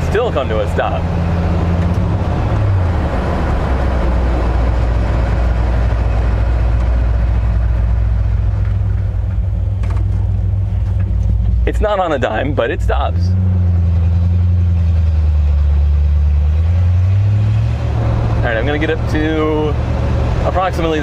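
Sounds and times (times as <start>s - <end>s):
road noise: 0.0s - 21.0s
truck engine: 0.0s - 21.0s.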